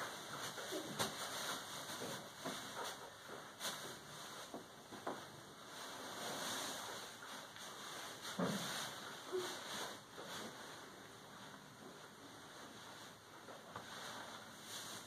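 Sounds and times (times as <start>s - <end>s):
soft rustling on fabric: 0.0s - 15.0s.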